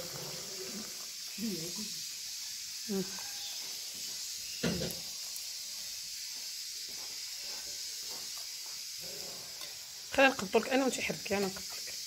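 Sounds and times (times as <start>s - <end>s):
sauce pouring hiss: 0.0s - 12.0s.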